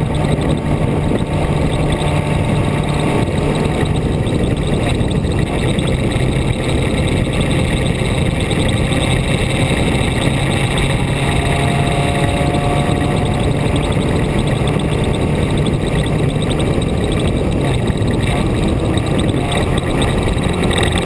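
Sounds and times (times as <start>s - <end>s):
road and wind noise: 0.0s - 21.0s
vehicle engine hum: 0.0s - 21.0s.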